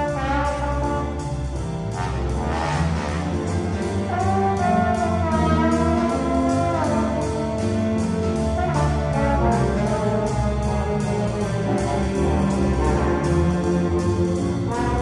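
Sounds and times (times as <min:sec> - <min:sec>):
horn line bending: 0:00.0 - 0:15.0
jazz big band playing: 0:00.0 - 0:15.0.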